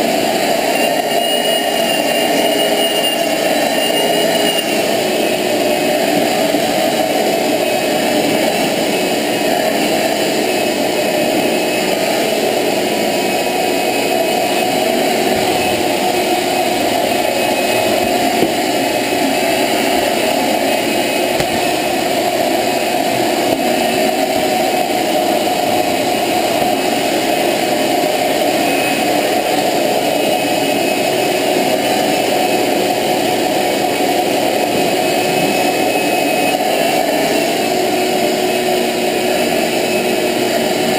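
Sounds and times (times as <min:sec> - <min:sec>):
shop vacuum motor whine: 0:00.0 - 0:40.9.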